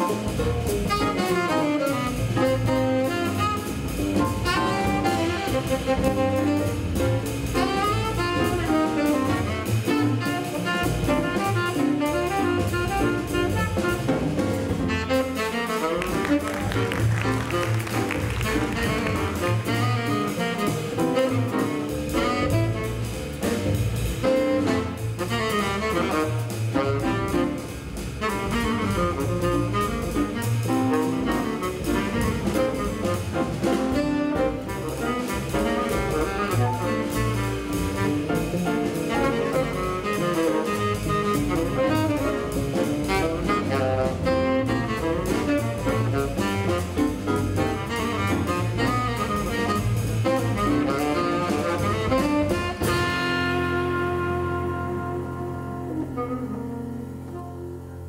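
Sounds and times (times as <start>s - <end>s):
drum kit: 0.0s - 58.0s
piano: 0.0s - 58.0s
tenor saxophone: 0.0s - 58.0s
upright bass: 0.0s - 58.0s.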